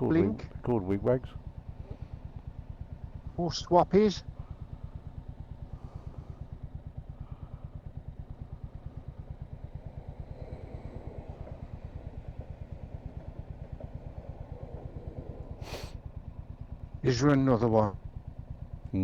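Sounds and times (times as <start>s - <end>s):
motorcycle engine idling low: 0.0s - 19.0s.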